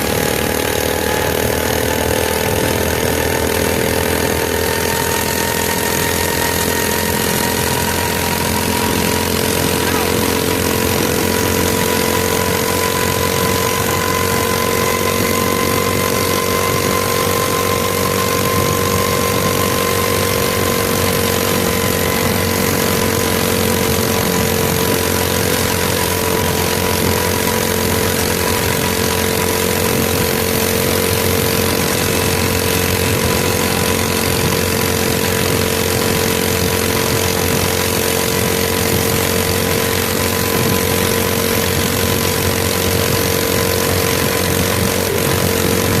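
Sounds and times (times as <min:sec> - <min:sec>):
small engine running: 0:00.0 - 0:46.0.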